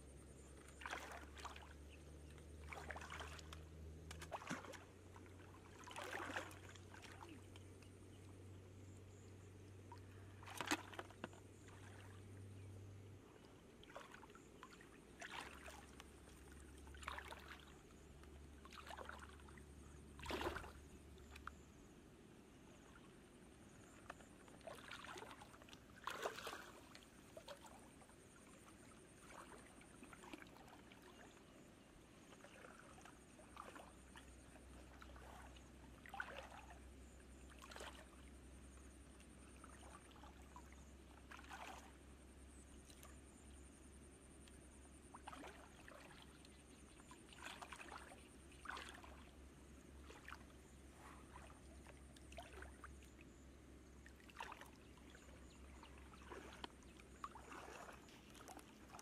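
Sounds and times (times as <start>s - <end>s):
shallow water splashing: 0.3s - 21.8s, 22.5s - 59.0s.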